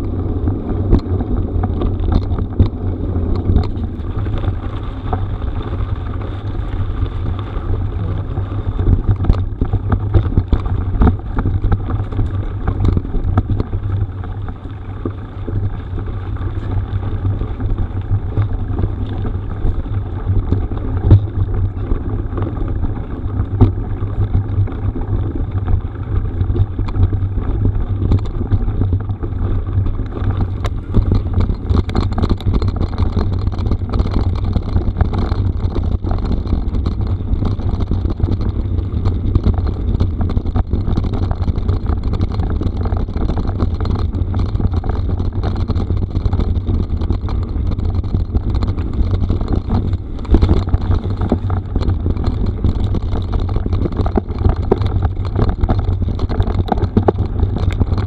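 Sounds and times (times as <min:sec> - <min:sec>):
bike tyre rumble on gravel: 0:00.0 - 0:58.0
stones clicking and rattling: 0:00.0 - 0:58.0
wind buffeting microphone: 0:00.0 - 0:58.0.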